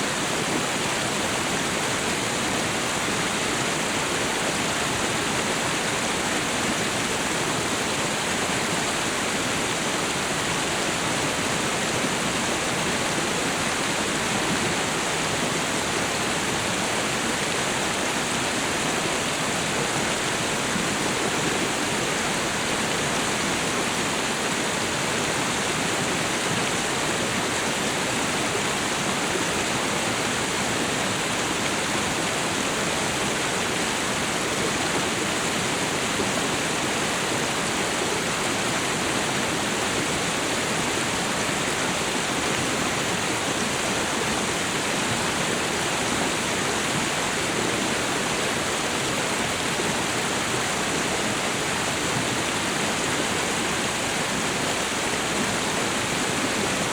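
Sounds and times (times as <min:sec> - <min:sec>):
waterfall and river rushing: 0:00.0 - 0:56.9.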